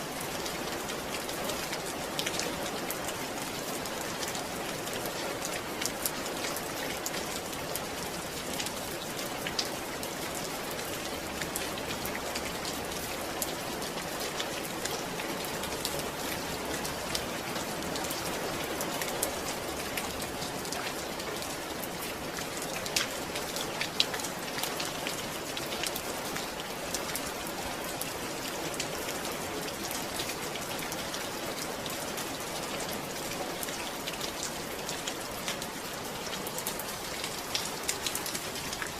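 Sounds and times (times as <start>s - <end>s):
raindrops pattering on a surface: 0.0s - 38.9s
steady rain falling: 0.0s - 38.9s.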